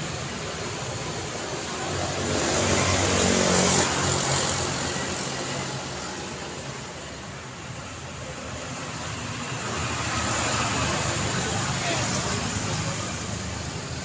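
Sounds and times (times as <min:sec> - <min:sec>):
road traffic: 0:00.0 - 0:14.0
car passing by: 0:01.0 - 0:07.2, 0:08.3 - 0:14.0.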